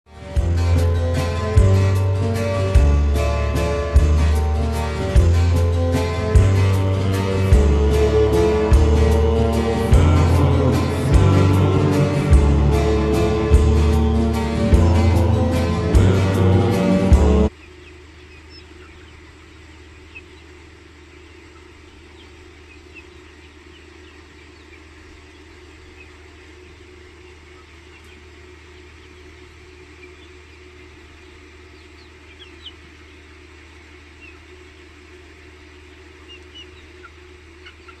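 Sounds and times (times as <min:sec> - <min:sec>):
steady low hum: 0:00.1 - 0:38.0
chickens calling: 0:00.2 - 0:38.0.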